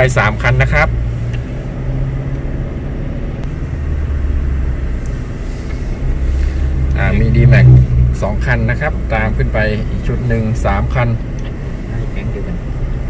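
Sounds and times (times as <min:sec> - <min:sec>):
car engine and road noise rumble: 0:00.0 - 0:13.0.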